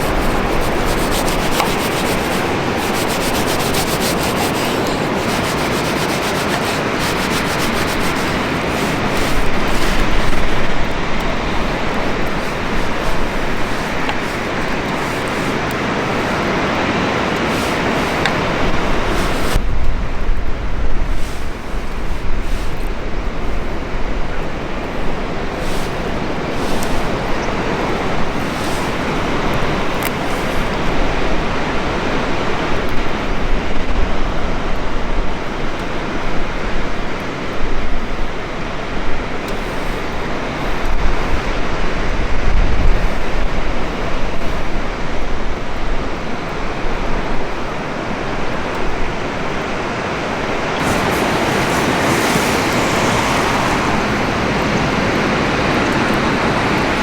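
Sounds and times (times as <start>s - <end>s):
wind on microphone: 0.0s - 46.4s, 48.4s - 57.0s.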